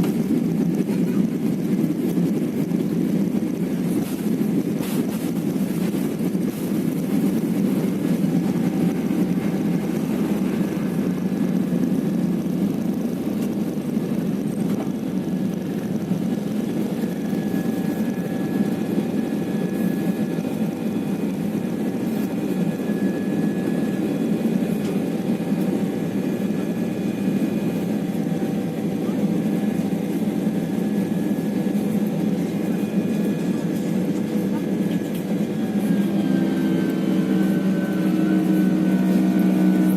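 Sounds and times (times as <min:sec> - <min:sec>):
aircraft engines in cabin: 0:00.0 - 0:39.9.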